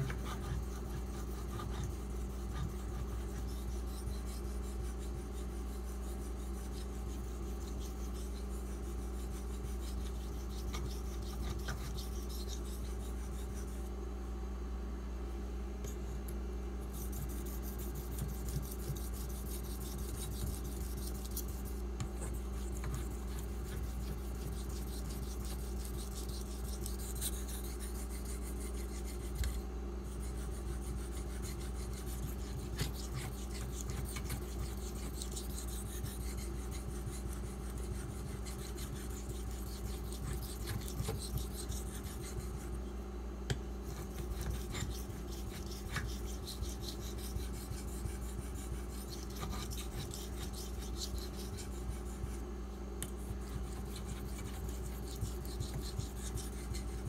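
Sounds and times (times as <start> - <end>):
knife scraping on whetstone: 0.0 - 13.9, 16.9 - 42.8, 43.8 - 52.4, 53.1 - 57.0
low background hum: 0.0 - 57.0.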